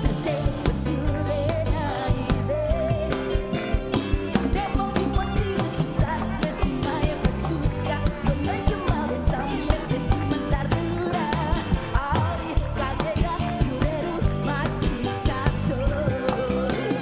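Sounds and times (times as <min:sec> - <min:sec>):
person singing into a microphone: 0:00.0 - 0:17.0
pop-rock backing track with drums: 0:00.0 - 0:17.0.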